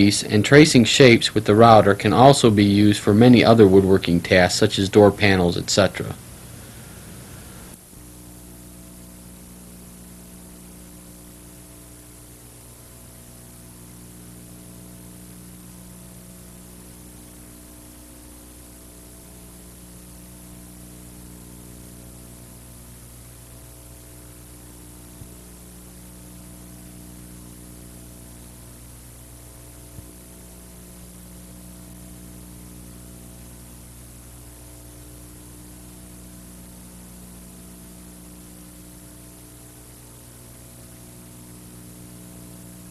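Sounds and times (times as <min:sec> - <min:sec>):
electrical mains hum: 0:00.0 - 0:42.9.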